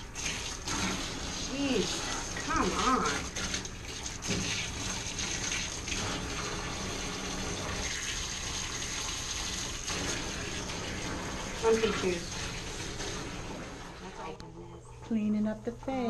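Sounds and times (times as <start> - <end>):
water spraying from hose: 0.0 - 13.9.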